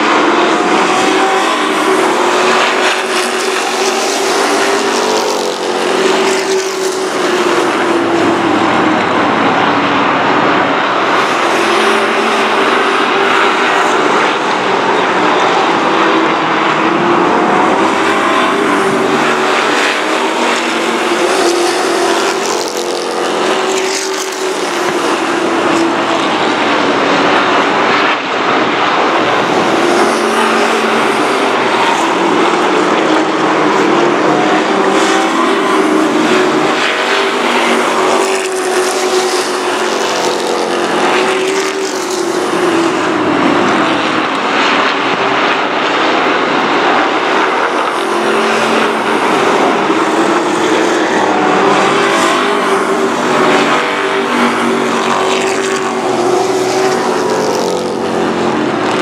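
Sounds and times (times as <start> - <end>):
race truck engines: 0.0 - 59.0.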